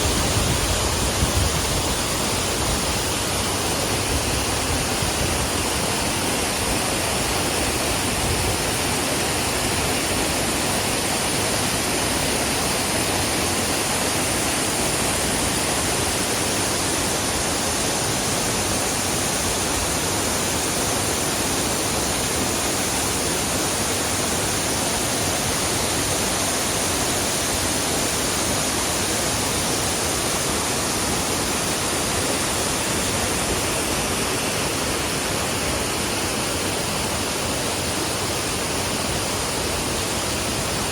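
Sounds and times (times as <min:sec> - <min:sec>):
waterfall rushing into pool: 0:00.0 - 0:40.9.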